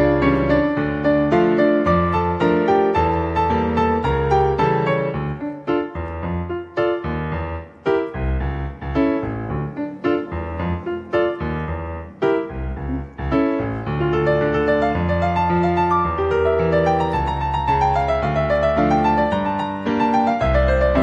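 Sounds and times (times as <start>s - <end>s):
keyboard piece: 0.0s - 21.0s.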